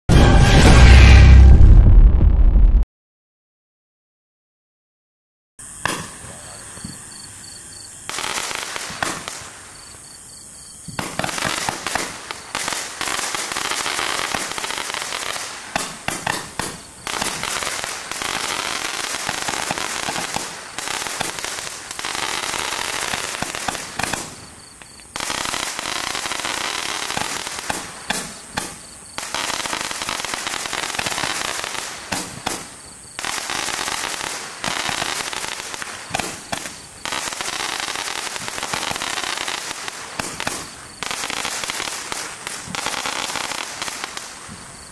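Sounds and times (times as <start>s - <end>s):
firework crackling: 5.6s - 10.0s, 10.9s - 44.9s
firework shots popping: 5.8s - 7.0s, 8.1s - 9.5s, 10.9s - 44.6s.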